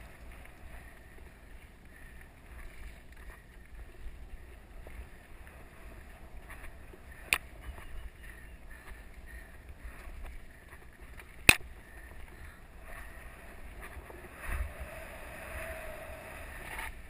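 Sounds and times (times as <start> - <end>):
wind on microphone: 2.6 - 17.0.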